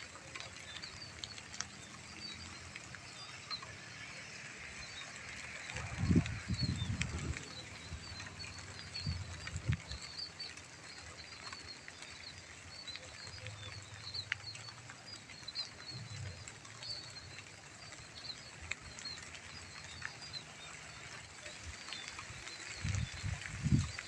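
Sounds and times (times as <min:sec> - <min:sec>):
rain hiss: 0:00.0 - 0:24.0
raindrop ticks: 0:00.0 - 0:24.0.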